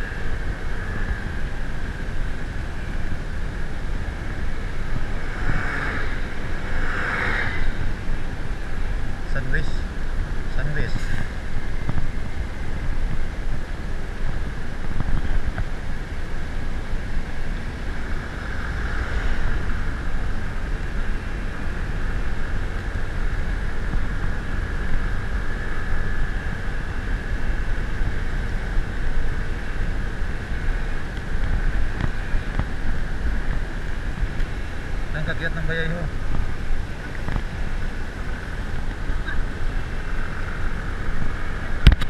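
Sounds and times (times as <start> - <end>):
engine and road rumble: 0.0 - 42.0
wind buffeting microphone: 0.0 - 42.0.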